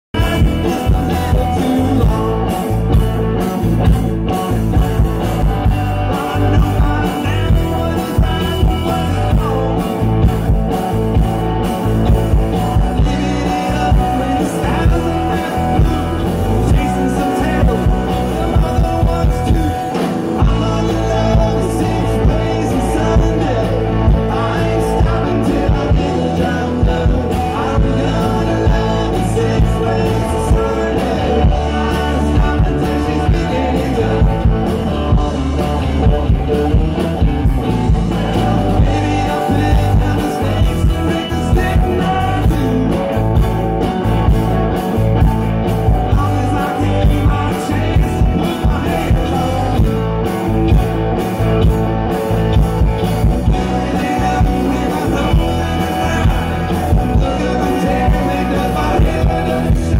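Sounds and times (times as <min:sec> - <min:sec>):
rock band playing live: 0:00.0 - 0:59.9
man singing: 0:00.1 - 0:50.9, 0:52.5 - 0:59.9.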